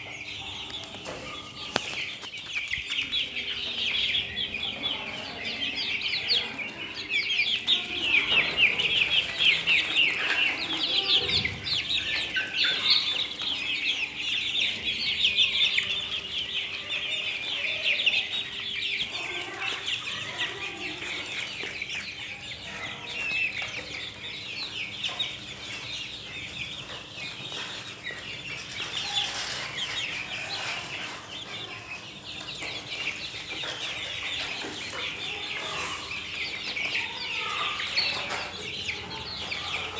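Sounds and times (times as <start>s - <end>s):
young chickens peeping: 0.0s - 39.9s.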